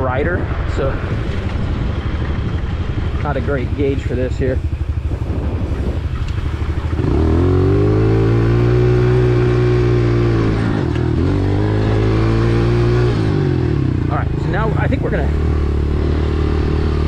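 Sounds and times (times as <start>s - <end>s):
dirt bike engine revving: 1.6s - 17.0s.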